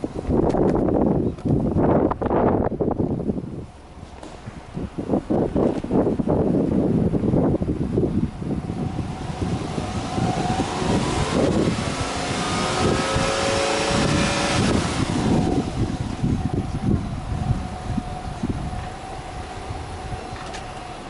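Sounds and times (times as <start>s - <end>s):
car exhaust idling and revving: 0.0s - 21.0s
wind buffeting microphone: 0.0s - 21.0s.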